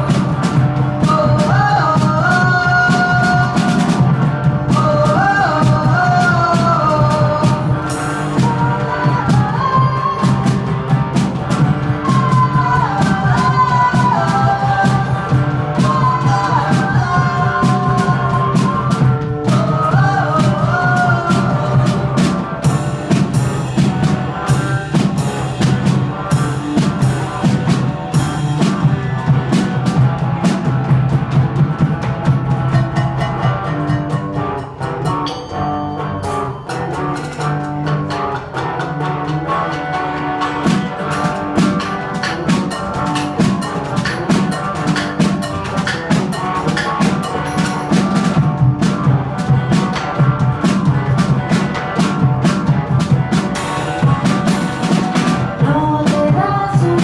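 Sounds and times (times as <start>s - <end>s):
acoustic guitar: 0.0s - 57.0s
drum kit with cymbal: 0.0s - 57.0s.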